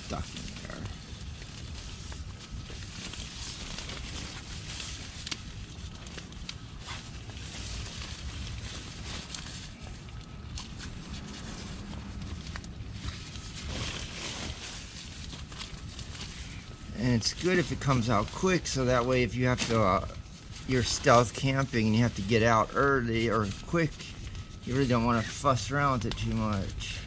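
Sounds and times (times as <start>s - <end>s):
nylon fabric rustling: 0.0s - 25.5s.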